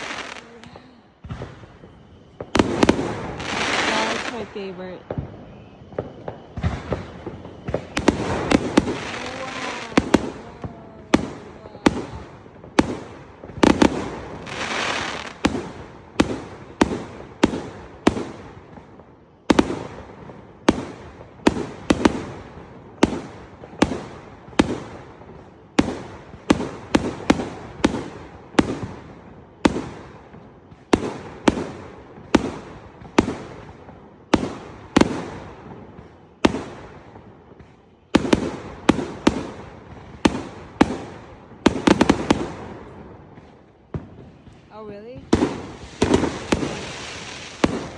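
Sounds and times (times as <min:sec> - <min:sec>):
firework crackle: 0:00.0 - 0:47.9
firework shells exploding: 0:00.0 - 0:47.9.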